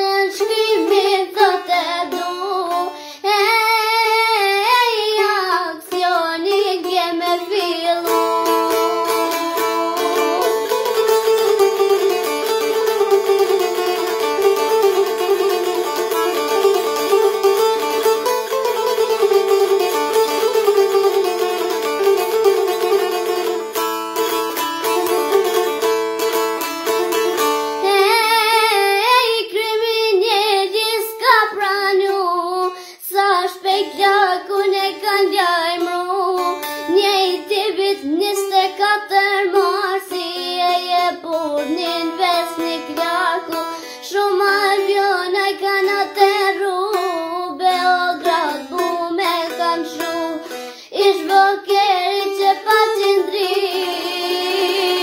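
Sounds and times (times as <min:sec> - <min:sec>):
girl singing: 0:00.0 - 0:23.7, 0:27.0 - 0:55.0
plucked long-necked lute: 0:00.0 - 0:55.0.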